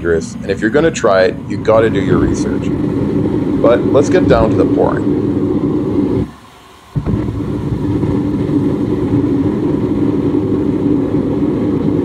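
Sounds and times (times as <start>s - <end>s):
low mechanical roar: 0.0s - 12.0s.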